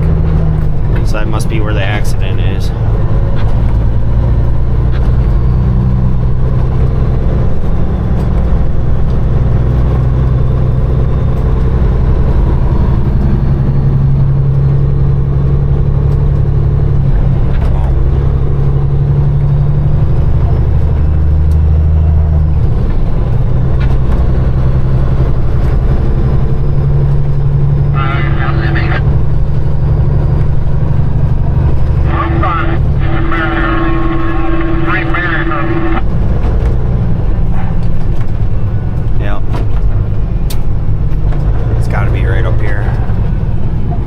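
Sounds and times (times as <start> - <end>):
truck diesel engine droning: 0.0 - 44.0.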